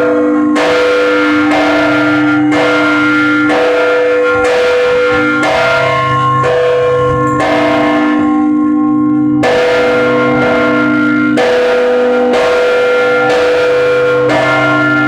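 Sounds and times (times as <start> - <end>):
church bells ringing together: 0.0 - 15.0.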